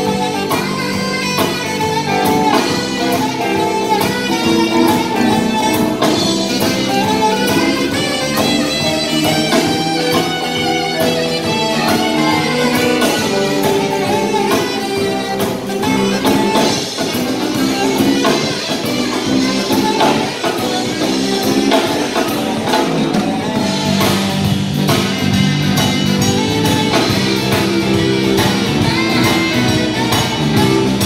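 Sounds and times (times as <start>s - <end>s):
drum kit beat: 0.0s - 31.0s
electric bass: 0.0s - 31.0s
electric guitars: 0.0s - 31.0s
saxophones playing melody: 0.0s - 31.0s.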